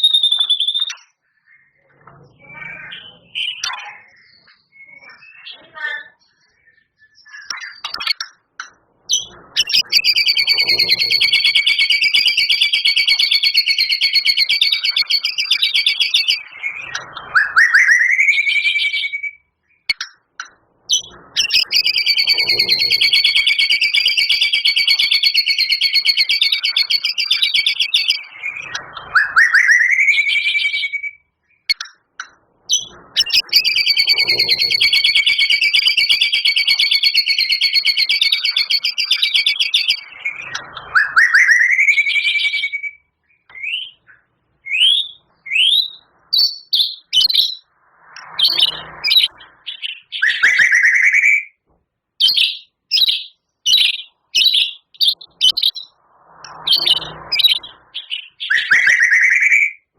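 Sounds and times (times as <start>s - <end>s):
bird singing trilled phrases: 0.0s - 51.6s, 52.2s - 59.9s.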